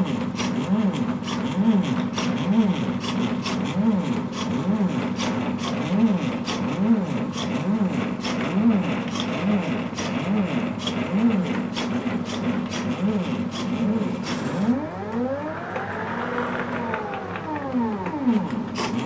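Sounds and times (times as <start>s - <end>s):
motors whining up and down: 0.0s - 19.0s.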